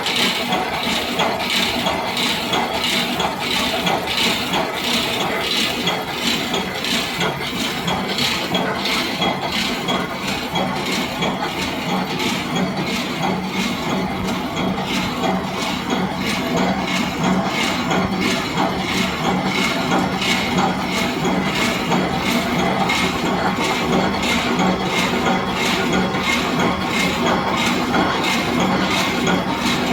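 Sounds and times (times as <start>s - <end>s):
continuous machine hum: 0.0s - 29.9s
rhythmic mechanical clatter: 0.0s - 29.9s.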